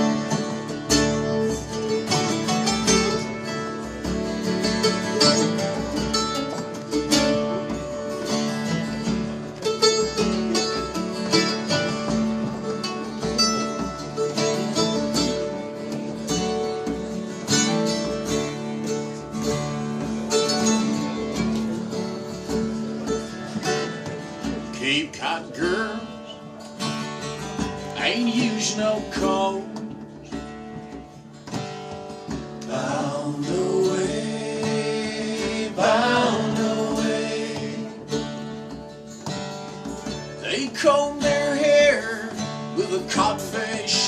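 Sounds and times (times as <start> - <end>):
strummed acoustic guitar: 0.0 - 44.0.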